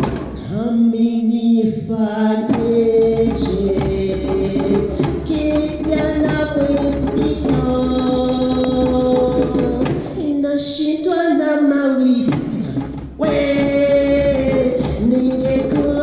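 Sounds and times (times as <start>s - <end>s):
drums: 0.0s - 0.8s, 2.0s - 11.2s, 12.1s - 16.0s.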